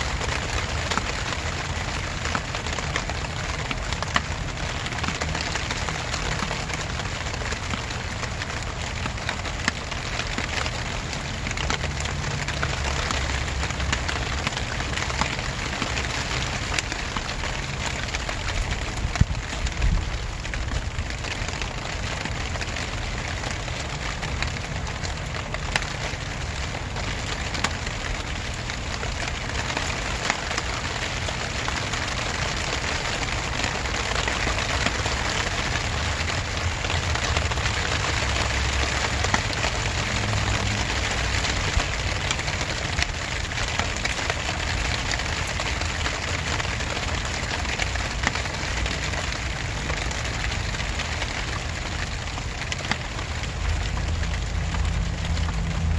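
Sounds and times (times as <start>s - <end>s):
raindrops ticking: 0.0s - 55.9s
steady rain falling: 0.0s - 55.9s.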